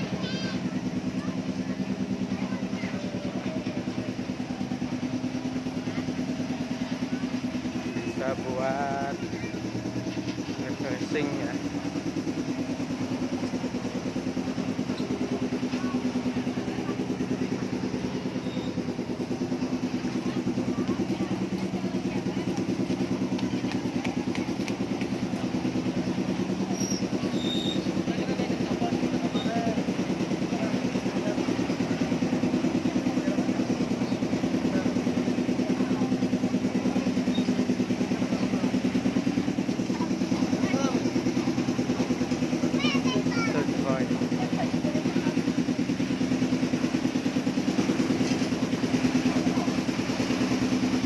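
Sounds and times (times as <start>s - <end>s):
small engine running: 0.0s - 51.0s.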